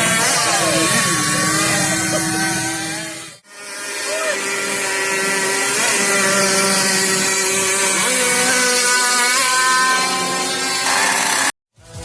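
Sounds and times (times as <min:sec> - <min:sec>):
model boat motor buzzing: 0:00.0 - 0:11.5.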